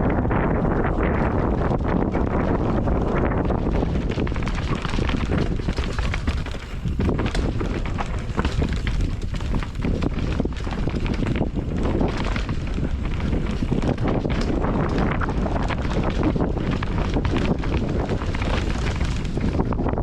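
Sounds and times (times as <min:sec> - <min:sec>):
wind buffeting the microphone: 0:00.0 - 0:20.0
tyres rushing on dirt trail: 0:00.2 - 0:20.0
bike rattles and knocks: 0:00.3 - 0:20.0.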